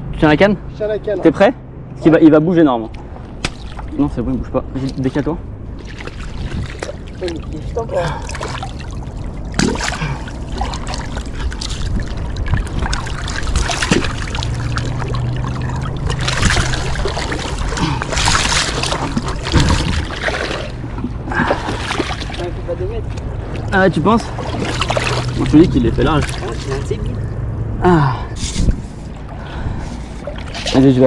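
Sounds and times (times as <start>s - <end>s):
water splashing and trickling: 2.7s - 31.0s.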